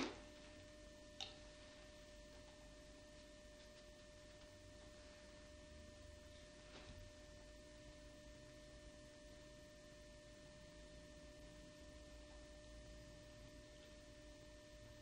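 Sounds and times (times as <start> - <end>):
faint hum of pure tones: 0.0 - 15.0.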